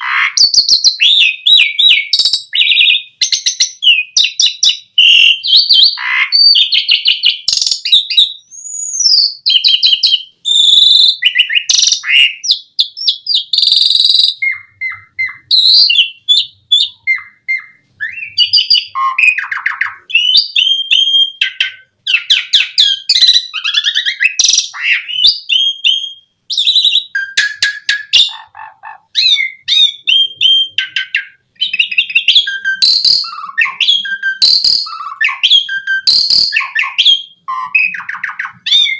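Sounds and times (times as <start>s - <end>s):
starling singing: 0.0s - 38.9s.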